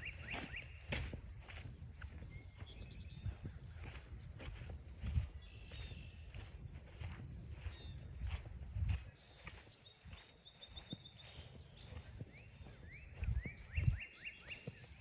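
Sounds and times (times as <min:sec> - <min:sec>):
footsteps on forest trail: 0:00.0 - 0:15.0
songbirds singing: 0:00.0 - 0:15.0.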